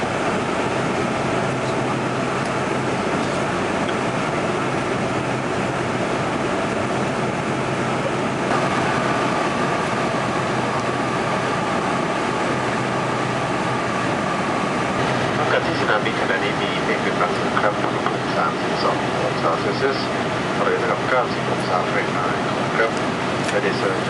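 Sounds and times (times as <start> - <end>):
faint steady whine: 0.0 - 24.0
jet cabin engine and airflow: 0.0 - 24.0.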